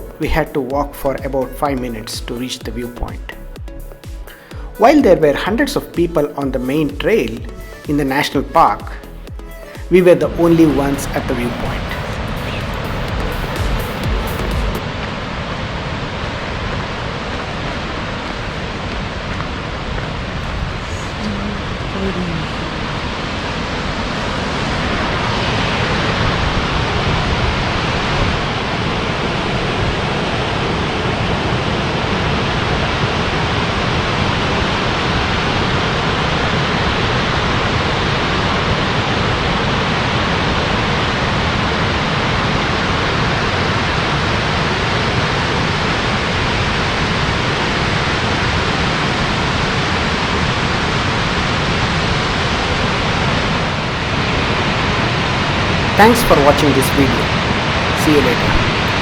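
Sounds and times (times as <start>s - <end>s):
waterfall roaring: 10.0s - 59.0s.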